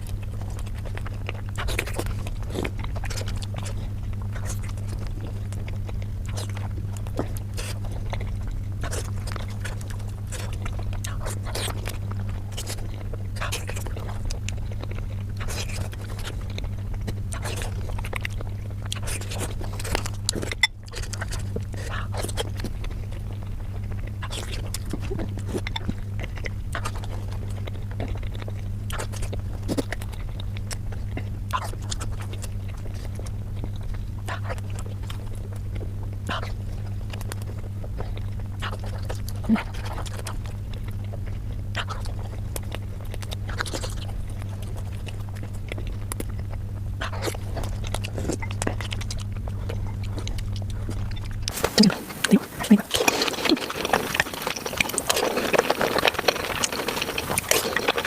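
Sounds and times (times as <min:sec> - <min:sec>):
person chewing with wet clicks: 0:00.0 - 0:58.0
steady low hum: 0:00.0 - 0:58.0.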